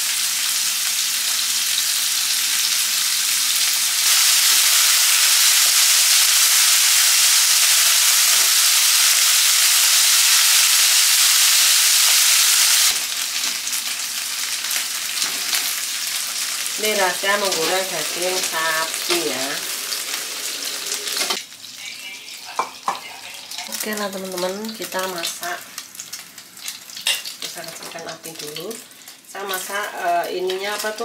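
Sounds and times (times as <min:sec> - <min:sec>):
beef sizzling in hot oil: 0:00.0 - 0:31.0.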